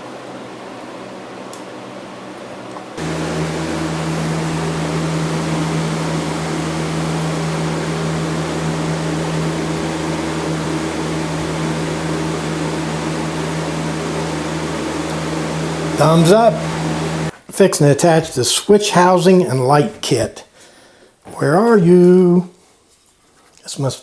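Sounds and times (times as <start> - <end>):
machine hum: 0.0 - 20.0
even hiss: 3.0 - 22.6.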